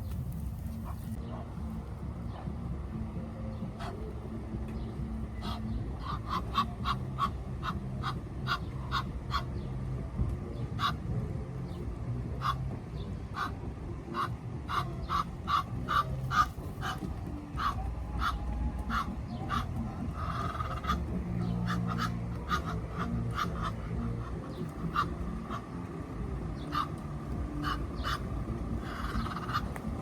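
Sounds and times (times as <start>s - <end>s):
ducks quacking: 0.0s - 2.8s, 3.4s - 10.0s, 10.6s - 30.0s
steady low rumble: 0.0s - 30.0s.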